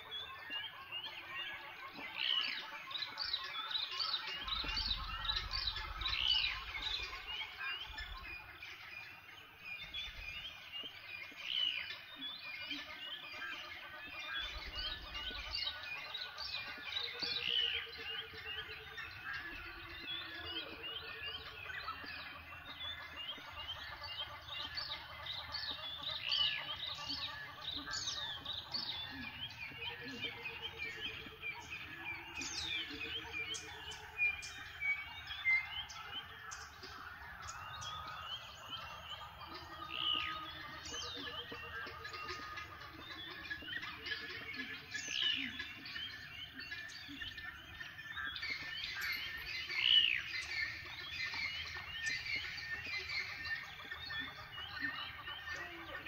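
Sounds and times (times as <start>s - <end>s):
birds chirping and calling: 0.0s - 56.0s
low pulsed bird trills: 0.0s - 56.0s.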